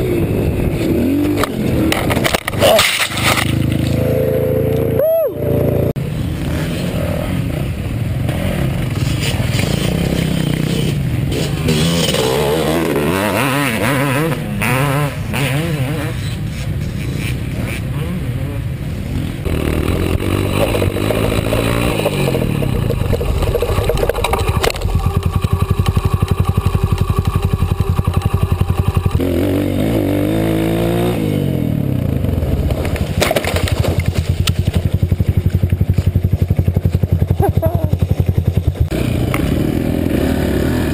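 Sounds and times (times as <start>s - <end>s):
dirt bike engine revving: 0.0s - 33.2s, 34.5s - 40.9s.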